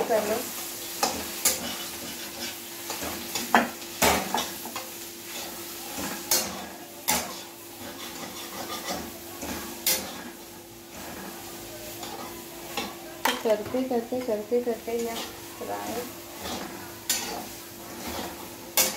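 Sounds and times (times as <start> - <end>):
food sizzling in oil: 0.0 - 18.9
metal spatula scraping a pan: 0.2 - 18.9.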